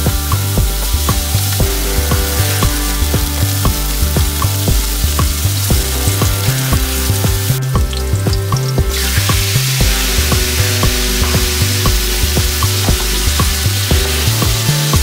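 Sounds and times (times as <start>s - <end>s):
background music with steady beat: 0.0s - 15.0s
garlic sizzling in frying pan: 0.0s - 15.0s.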